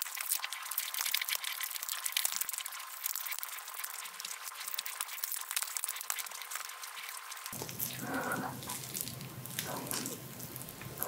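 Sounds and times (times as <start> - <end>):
prawn shell crackling and clicking: 0.0 - 11.0.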